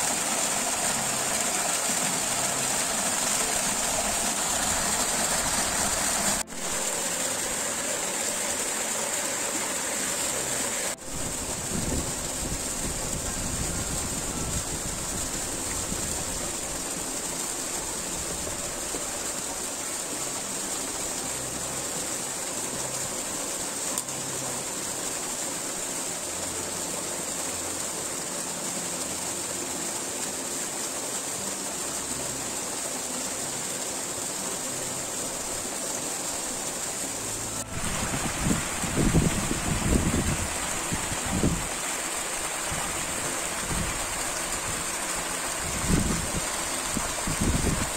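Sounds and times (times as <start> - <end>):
stream cascading over rocks: 0.0 - 47.9.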